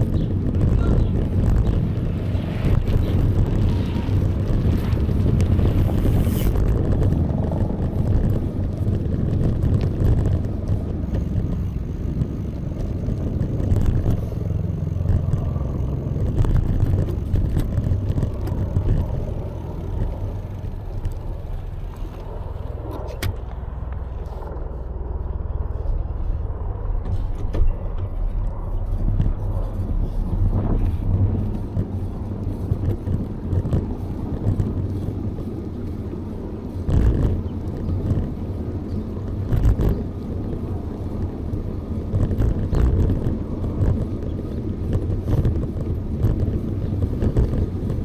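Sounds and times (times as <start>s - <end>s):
bicycle road noise: 0.0s - 48.0s
wind on microphone: 0.0s - 48.0s.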